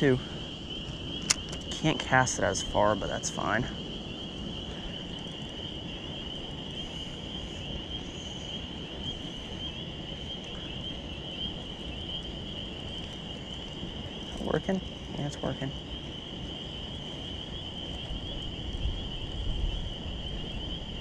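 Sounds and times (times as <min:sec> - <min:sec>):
insect chorus trilling: 0:00.0 - 0:21.0
low rushing outdoor noise: 0:00.0 - 0:21.0.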